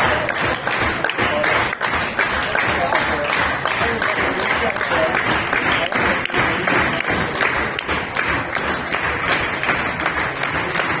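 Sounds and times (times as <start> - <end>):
audience applauding: 0.0 - 11.0
sharp close hand claps: 0.0 - 11.0.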